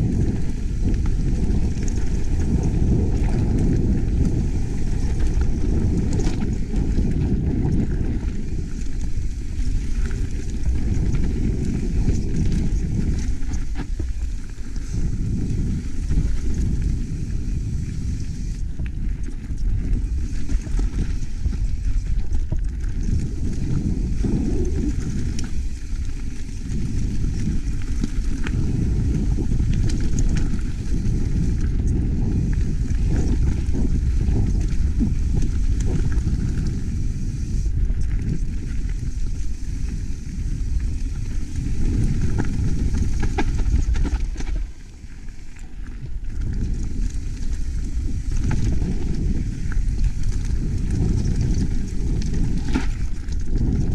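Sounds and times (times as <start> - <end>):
bike rattling over rough trail: 0.0 - 53.9
sharp clicks from bike: 0.0 - 53.9
wind rumbling on microphone: 0.0 - 53.9.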